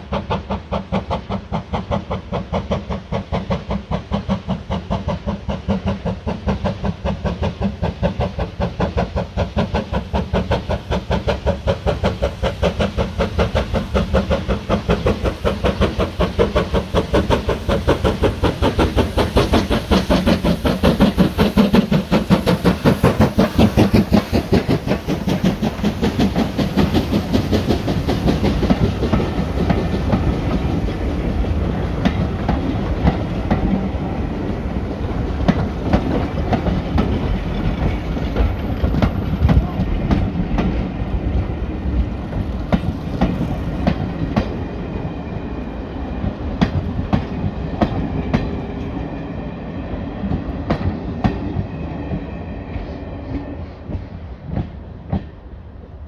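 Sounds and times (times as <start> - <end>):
steam locomotive exhaust beats: 0.0 - 56.0.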